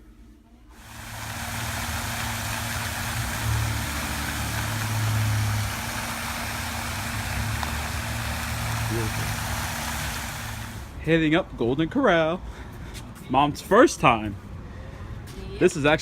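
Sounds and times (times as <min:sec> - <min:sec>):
road and wind noise: 0:01.0 - 0:16.0.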